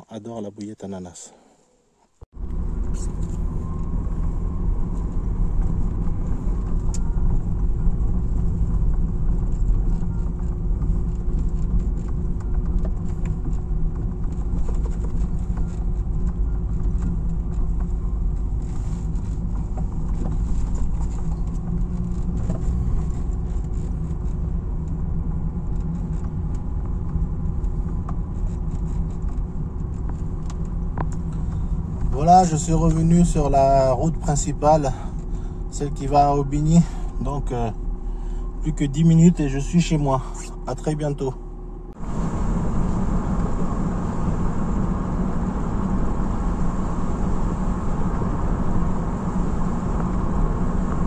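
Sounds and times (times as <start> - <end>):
car engine and tyres rumbling: 1.8 - 51.0.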